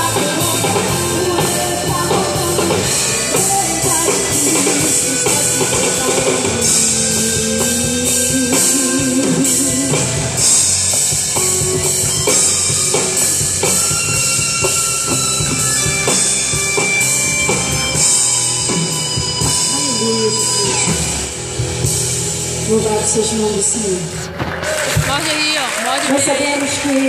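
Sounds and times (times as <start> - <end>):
drum kit with cymbals: 0.0 - 24.2
guitar playing: 0.0 - 24.4.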